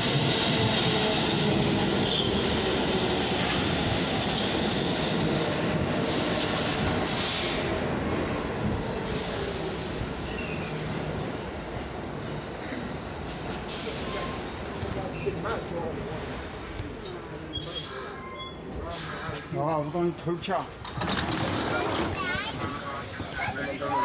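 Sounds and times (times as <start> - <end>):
subway train rumbling: 0.0 - 24.0.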